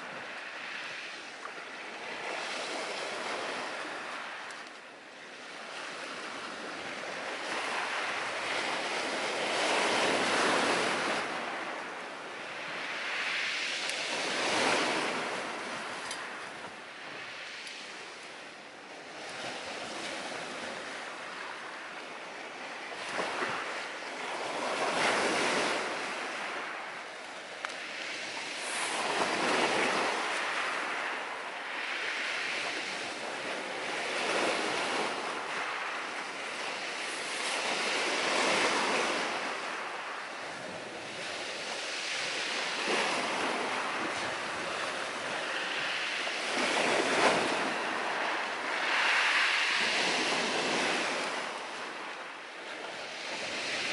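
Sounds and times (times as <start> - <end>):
surf breaking on shore: 0.0 - 53.9.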